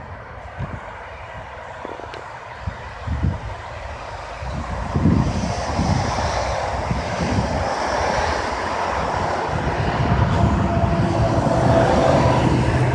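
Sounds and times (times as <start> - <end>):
wind: 0.0 - 12.9.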